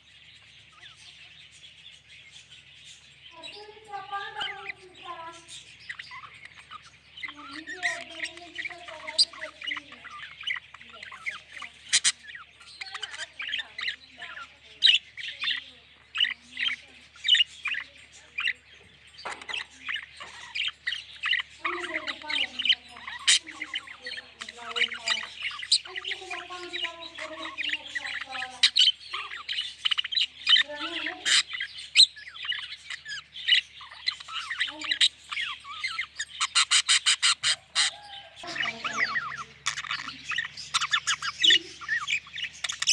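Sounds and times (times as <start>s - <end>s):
budgerigars chirping and squawking: 0.0s - 42.9s.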